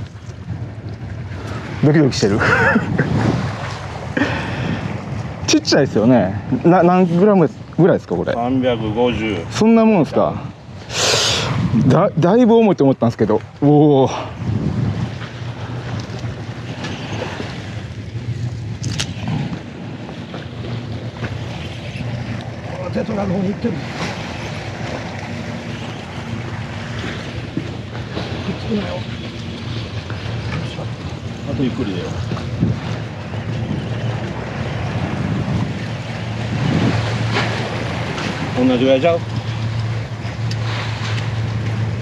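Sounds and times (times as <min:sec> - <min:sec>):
water washing against seawall: 0:00.0 - 0:42.0
wind buffeting microphone: 0:00.0 - 0:42.0.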